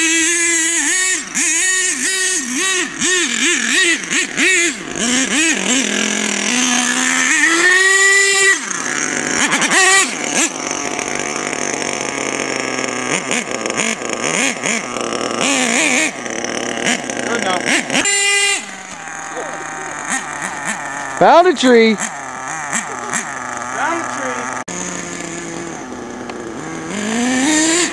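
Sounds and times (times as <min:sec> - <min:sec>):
small nitro engine revving: 0:00.0 - 0:27.9.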